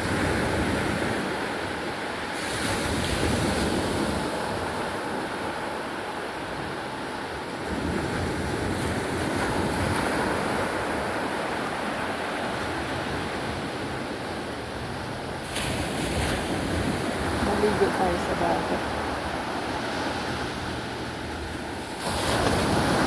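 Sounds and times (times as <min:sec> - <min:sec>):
sea waves washing onto shore: 0:00.0 - 0:23.0.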